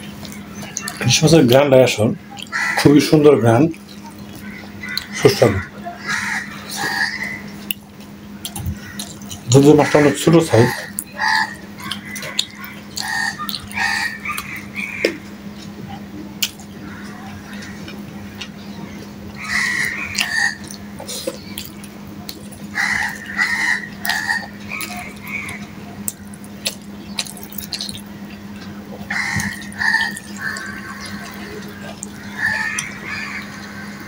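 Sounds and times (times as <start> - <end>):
wet chewing and lip-smacking: 0.0 - 1.6, 2.2 - 3.0, 3.7 - 34.0
steady low hum: 0.0 - 34.0.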